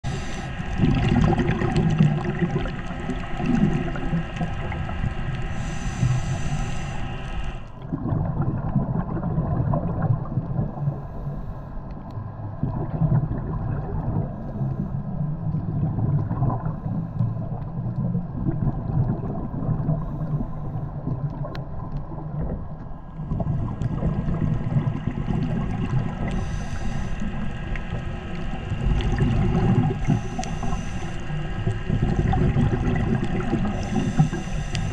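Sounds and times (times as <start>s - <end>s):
faint steady hum: 0.0s - 34.9s
muffled underwater rumble: 0.0s - 34.9s.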